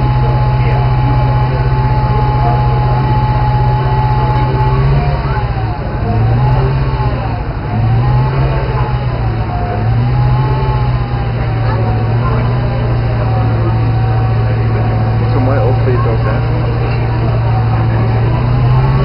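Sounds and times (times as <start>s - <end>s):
sports car engine revving: 0.0s - 19.0s.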